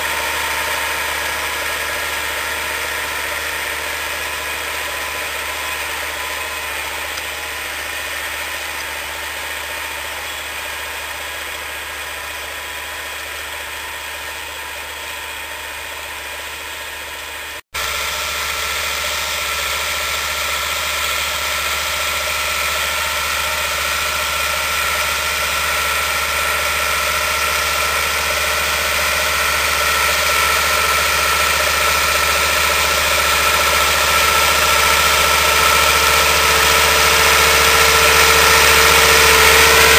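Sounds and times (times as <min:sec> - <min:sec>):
steady whine: 0:00.0 - 0:39.9
tractor diesel engine under load: 0:00.0 - 0:39.9.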